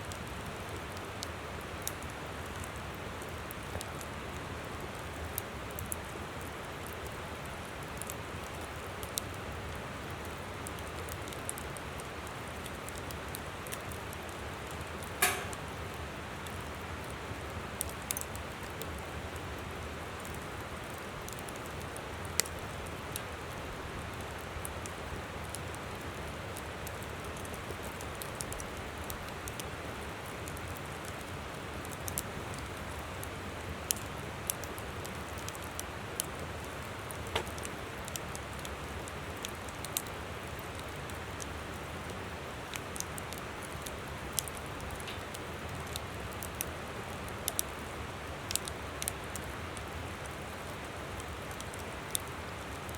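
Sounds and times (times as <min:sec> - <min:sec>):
campfire crackling and popping: 0:00.1 - 0:52.9.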